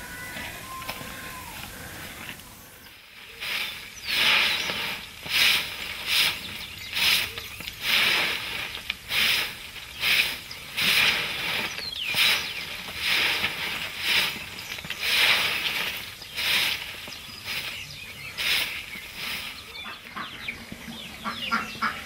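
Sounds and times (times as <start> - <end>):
broom sweeping ground: 0.0 - 21.9.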